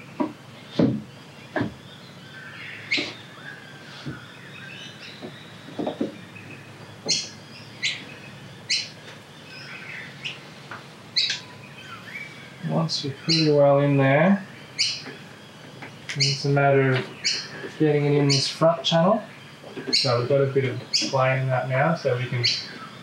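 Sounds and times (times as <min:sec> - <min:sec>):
bright bird calls: 0:00.0 - 0:23.0.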